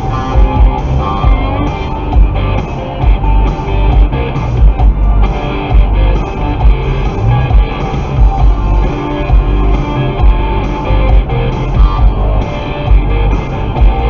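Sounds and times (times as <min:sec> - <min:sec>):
rock song on radio: 0:00.0 - 0:14.0.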